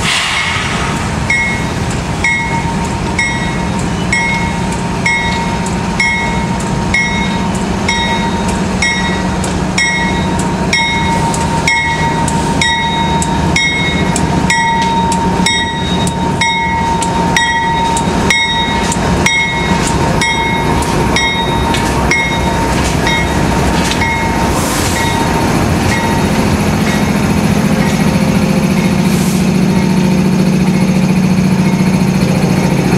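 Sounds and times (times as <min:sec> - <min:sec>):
locomotive engine humming: 0:00.0 - 0:32.9.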